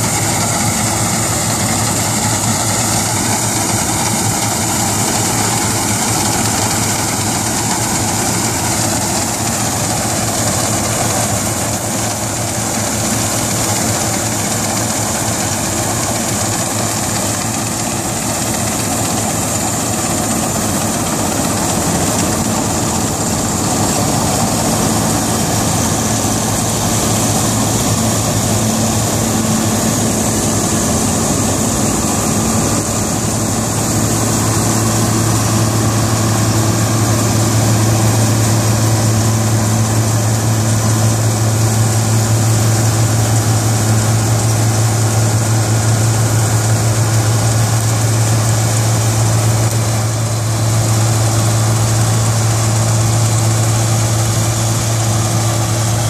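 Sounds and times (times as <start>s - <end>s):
combine harvester engine drone: 0.0s - 56.0s
working machinery noise: 0.0s - 56.0s.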